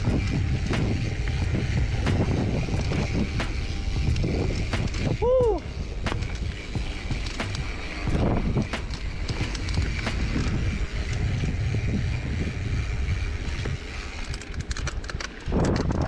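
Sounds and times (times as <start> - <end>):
bike clicks and rattles: 0.0 - 16.0
bike freewheel ticking: 0.0 - 16.0
bike tyre noise on dirt: 0.0 - 16.0
wind rumbling on microphone: 0.0 - 16.0.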